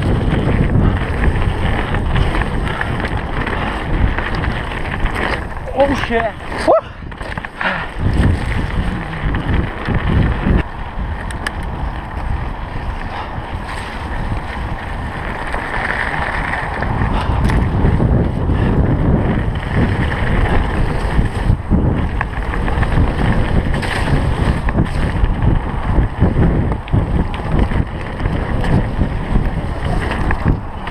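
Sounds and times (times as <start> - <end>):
bike clicks and knocks: 0.0 - 30.9
bike tyres rushing on dirt: 0.0 - 30.9
wind buffeting microphone: 0.0 - 30.9.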